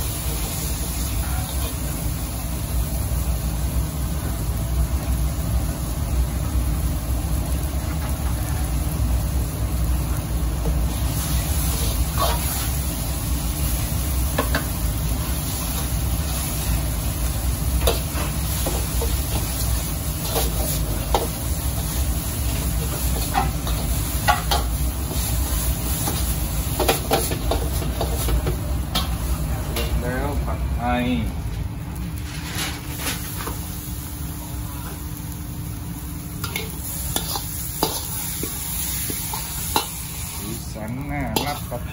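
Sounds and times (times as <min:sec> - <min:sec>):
food sizzling: 0:00.0 - 0:41.9
low kitchen roar: 0:00.0 - 0:41.9
low rumble of gas burner: 0:00.0 - 0:41.9.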